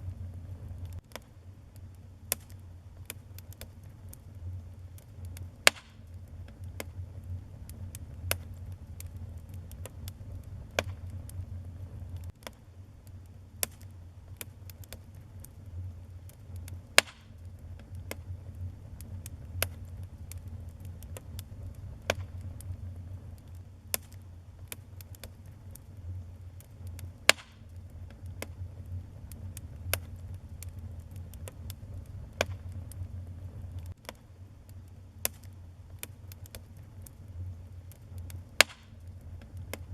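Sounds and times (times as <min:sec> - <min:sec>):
loud fire snaps: 0:00.0 - 0:39.9
low steady rumble: 0:00.0 - 0:39.9
wood fire crackling and popping: 0:00.0 - 0:39.9.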